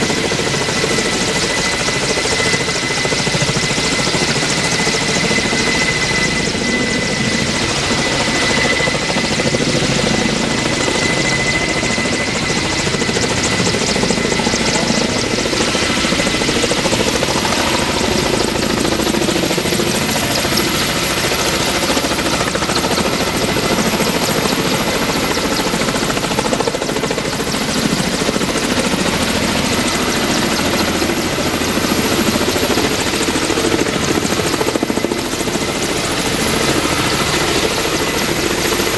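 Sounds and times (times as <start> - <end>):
helicopter engines and rotors: 0.0 - 38.9.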